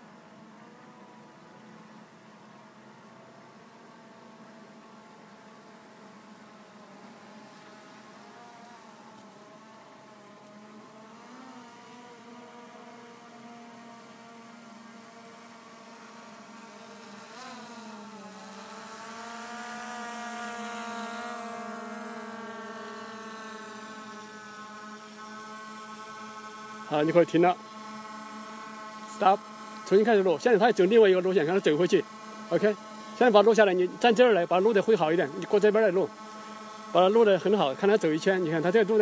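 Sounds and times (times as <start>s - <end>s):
drone propellers buzzing: 5.0s - 39.0s.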